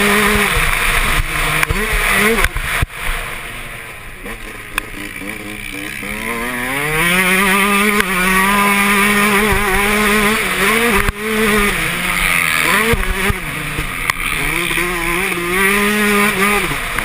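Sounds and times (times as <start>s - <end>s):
two-stroke motocross engine revving: 0.0s - 17.0s.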